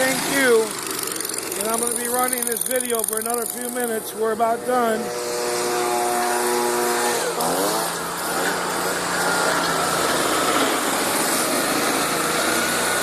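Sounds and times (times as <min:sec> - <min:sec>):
stump grinder engine: 0:00.0 - 0:13.0
wheel grinding: 0:00.0 - 0:13.0.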